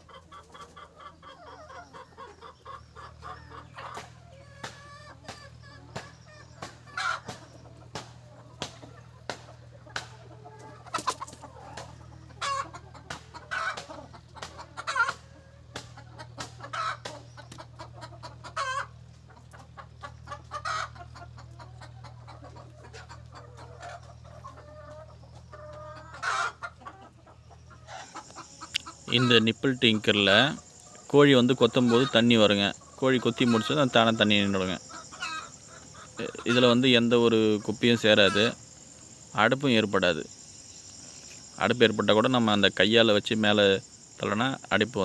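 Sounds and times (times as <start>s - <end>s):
chickens clucking: 0.0s - 45.0s
steady low hum: 2.4s - 45.0s.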